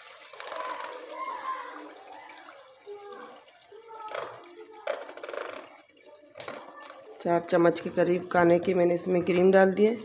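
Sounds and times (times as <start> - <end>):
curry bubbling in a pot: 0.0 - 10.0.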